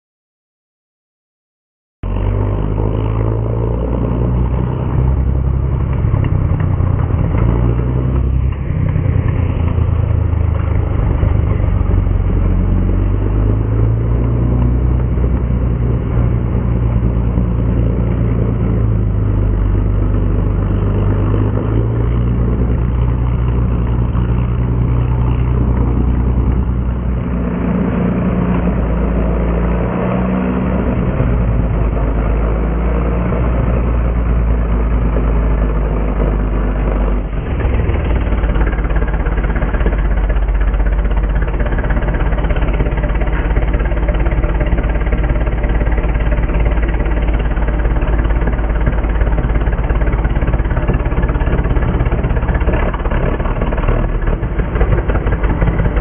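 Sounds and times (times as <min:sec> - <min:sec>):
tank engine running: 0:02.0 - 0:56.0.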